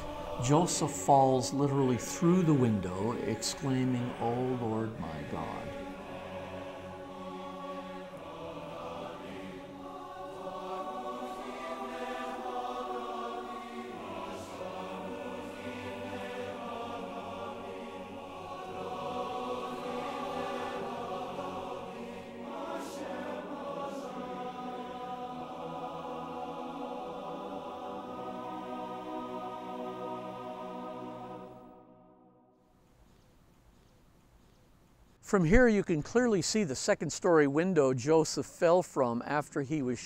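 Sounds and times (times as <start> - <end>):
wordless choir singing: 0.0 - 32.5.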